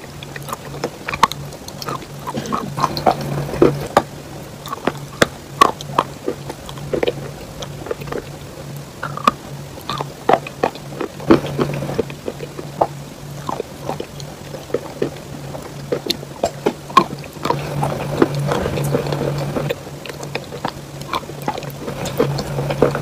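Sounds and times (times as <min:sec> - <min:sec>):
wet mouth chewing clicks: 0:00.0 - 0:23.0.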